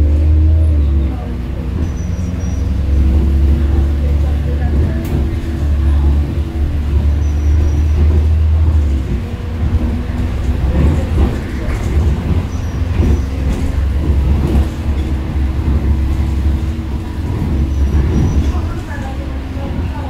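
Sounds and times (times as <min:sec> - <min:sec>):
bus engine humming: 0:00.0 - 0:20.0
engine knocks: 0:00.0 - 0:20.0
road noise: 0:00.0 - 0:20.0.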